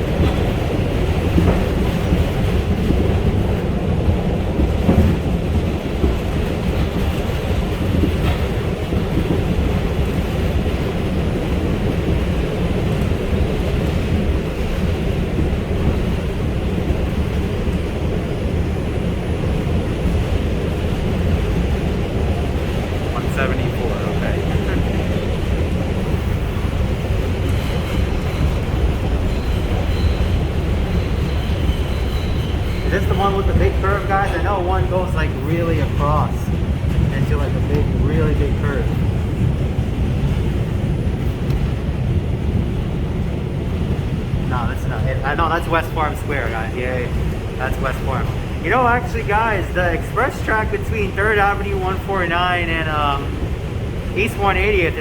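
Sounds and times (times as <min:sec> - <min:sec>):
faint rail clacks: 0:00.0 - 0:18.2, 0:19.5 - 0:55.0
subway train rumbling: 0:00.0 - 0:55.0.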